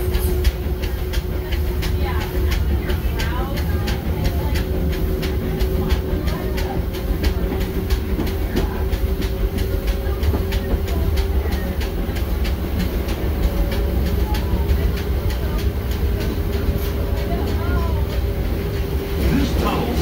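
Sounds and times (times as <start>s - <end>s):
train car rumbling on track: 0.0s - 20.0s
wheels clicking on rails: 0.0s - 20.0s.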